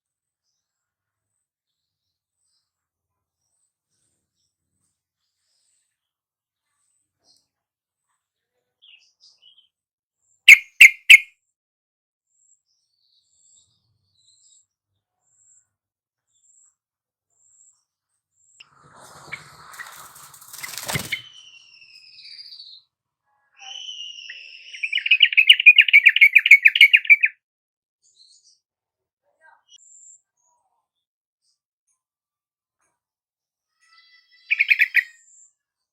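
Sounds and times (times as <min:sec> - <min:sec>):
bird song: 0:00.1 - 0:11.3, 0:12.3 - 0:27.4, 0:28.0 - 0:32.0, 0:33.7 - 0:35.9.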